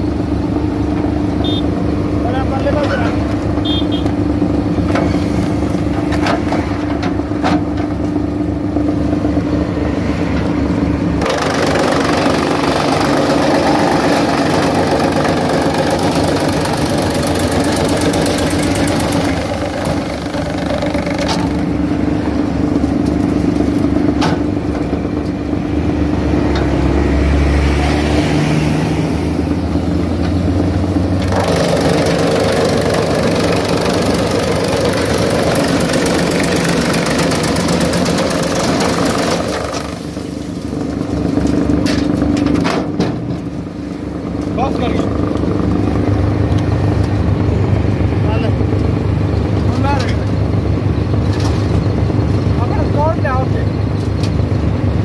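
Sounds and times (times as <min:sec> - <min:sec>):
tractor engine running: 0:00.0 - 0:55.0
wood chipper shredding log: 0:00.0 - 0:55.0.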